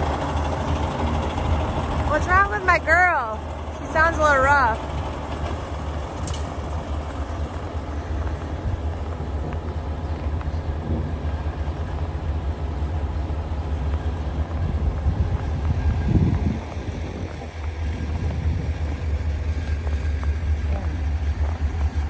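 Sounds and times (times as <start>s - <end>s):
farm machine engine idling: 0.0s - 22.0s.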